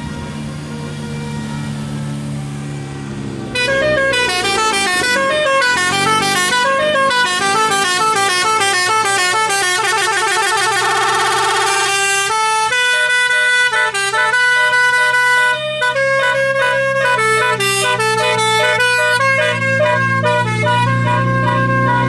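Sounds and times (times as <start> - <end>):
multi-tone air horn melody: 3.5 - 22.0.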